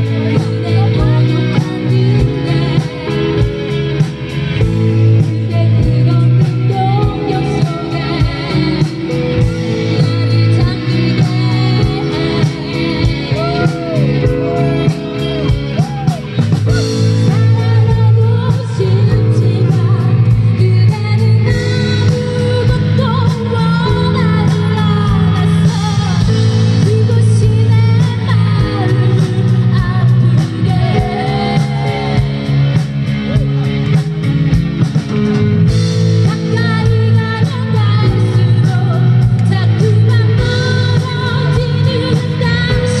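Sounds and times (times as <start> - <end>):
woman singing: 0.0 - 33.7, 36.1 - 43.0
live rock band playing: 0.0 - 43.0.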